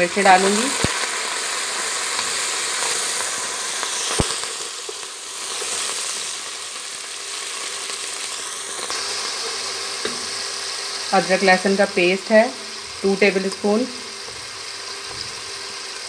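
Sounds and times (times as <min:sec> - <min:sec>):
herbs sizzling in hot oil: 0:00.0 - 0:16.0.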